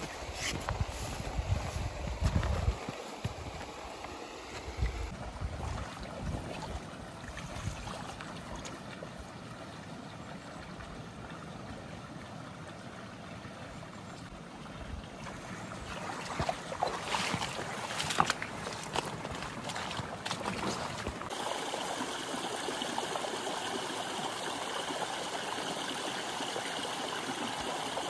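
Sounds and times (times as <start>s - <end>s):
stream running over rocks: 0.0s - 28.0s.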